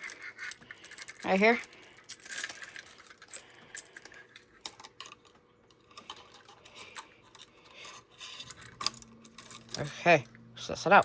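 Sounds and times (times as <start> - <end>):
hard objects clicking and rattling: 0.0 - 10.1.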